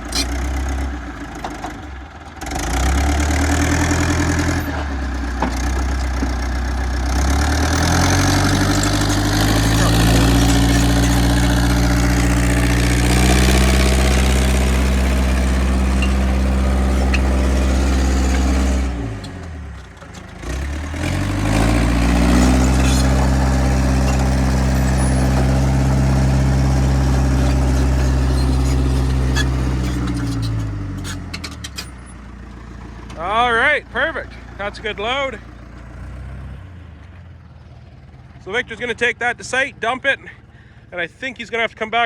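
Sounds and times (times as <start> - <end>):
heavy engine revving: 0.0 - 36.8.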